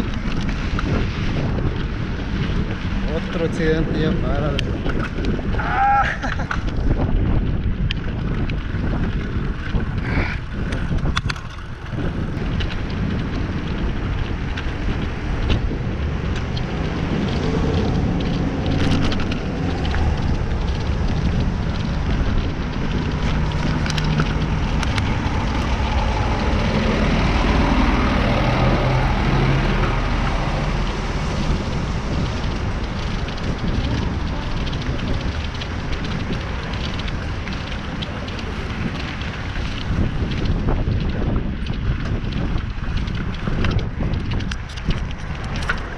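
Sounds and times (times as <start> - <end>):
street traffic engine hum: 0.0 - 45.9
wind and road noise: 0.0 - 45.9.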